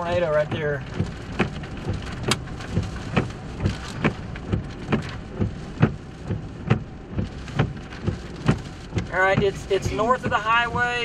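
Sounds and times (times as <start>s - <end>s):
rain tapping on vehicle roof: 0.0s - 11.0s
steady low hiss: 0.0s - 11.0s.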